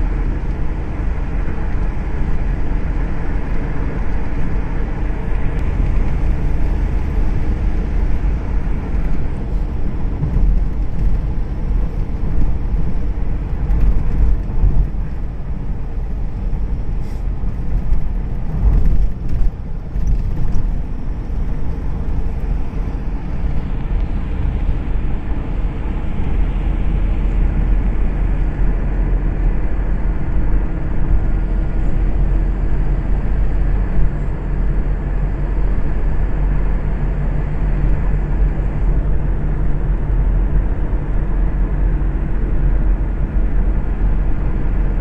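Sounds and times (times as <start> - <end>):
vehicle engine and tyre rumble: 0.0 - 45.0.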